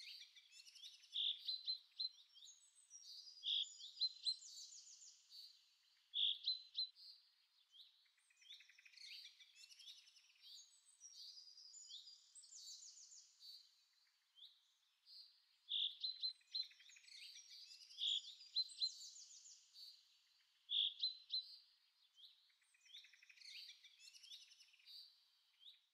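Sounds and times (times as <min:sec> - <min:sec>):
birds chirping and trilling: 0:00.0 - 0:25.9.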